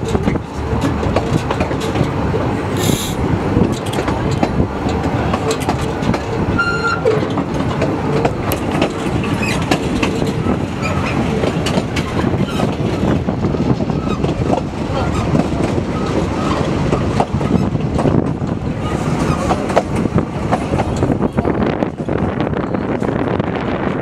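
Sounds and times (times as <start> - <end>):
railway carriage rumbling on track: 0.0 - 24.0
wheels clicking and knocking: 0.0 - 24.0.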